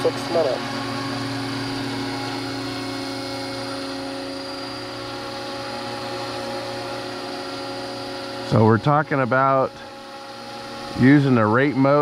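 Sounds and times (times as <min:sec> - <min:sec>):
model helicopter rotors whining: 0:00.0 - 0:12.0.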